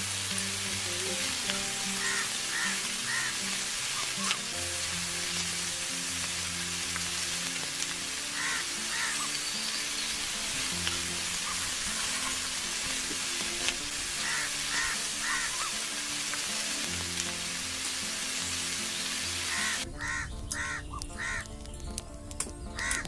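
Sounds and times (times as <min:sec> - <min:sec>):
food sizzling in hot oil: 0:00.0 - 0:21.4.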